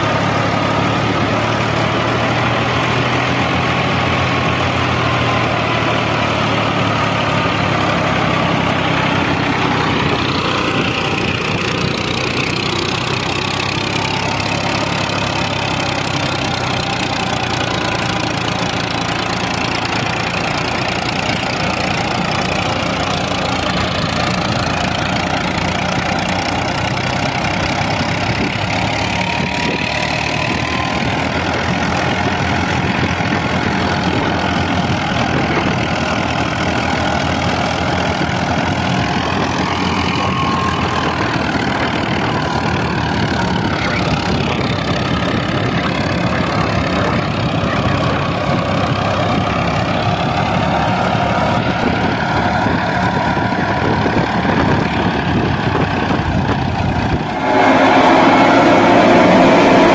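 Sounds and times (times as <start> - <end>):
tractor diesel engine running: 0.0 - 59.9
thresher whirring: 0.4 - 59.9.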